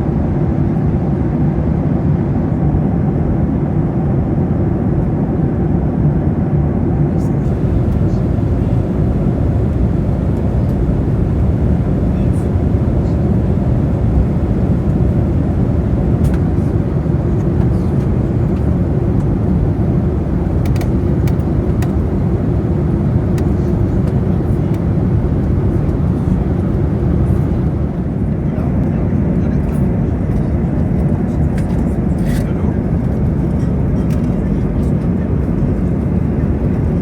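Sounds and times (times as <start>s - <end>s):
airliner cabin roar: 0.0s - 37.0s.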